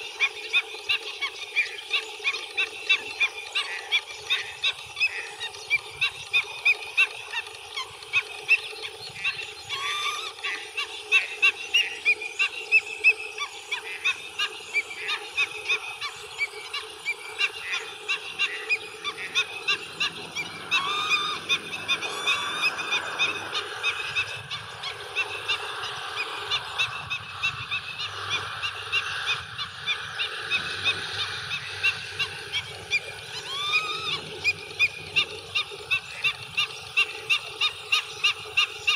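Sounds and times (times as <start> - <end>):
birds honking calls: 0.0 - 38.9.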